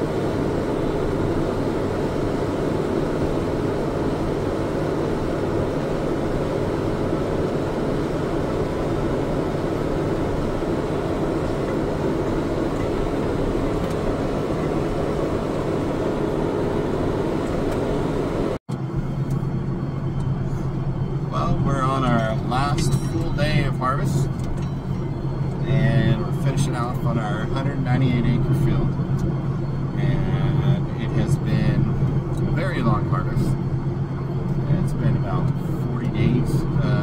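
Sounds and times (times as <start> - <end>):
heavy farm machinery drone: 0.0 - 37.0.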